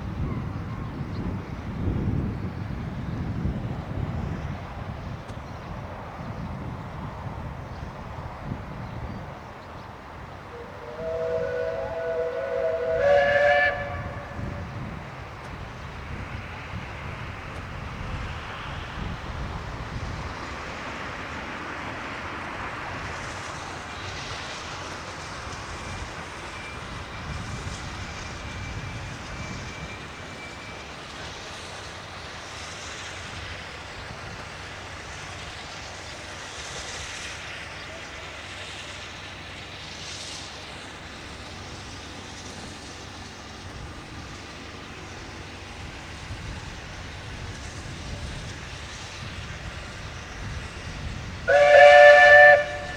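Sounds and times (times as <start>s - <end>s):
steam train rumbling by: 0.0s - 52.9s
steam hissing: 1.5s - 52.9s.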